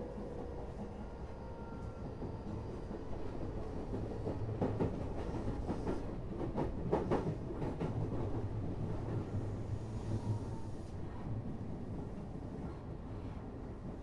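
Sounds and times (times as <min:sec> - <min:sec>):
train running with rumble: 0:00.0 - 0:14.0.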